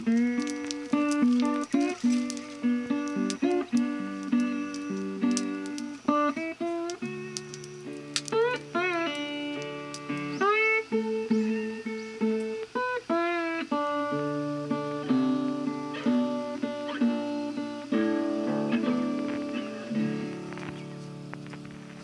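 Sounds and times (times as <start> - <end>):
held bass notes: 0.0 - 12.7, 14.0 - 22.0
acoustic guitar melody: 0.0 - 22.0.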